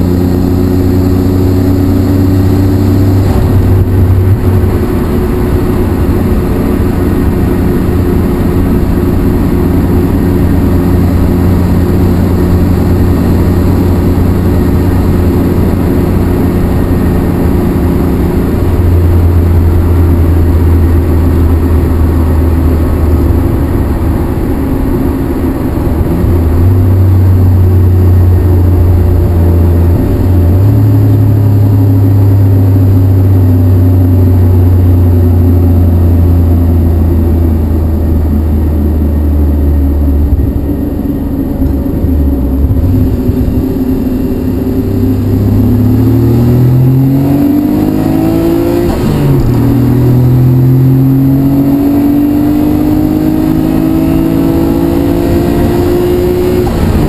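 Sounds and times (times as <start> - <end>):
car engine exhaust drone: 0.0 - 57.0.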